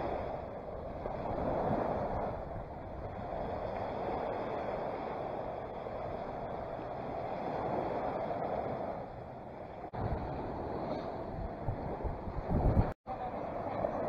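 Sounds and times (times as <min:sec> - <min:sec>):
waves washing on sandy beach: 0:00.0 - 0:14.0
wind buffeting microphone: 0:00.0 - 0:14.0.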